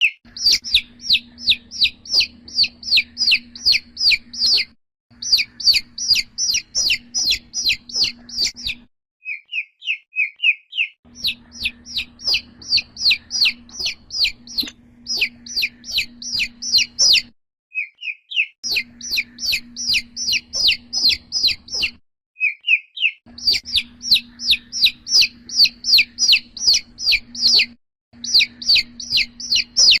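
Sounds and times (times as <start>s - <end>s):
chick peeping: 0.0s - 30.0s
steady low hum: 0.3s - 8.9s, 11.1s - 17.3s, 18.7s - 22.0s, 23.3s - 30.0s.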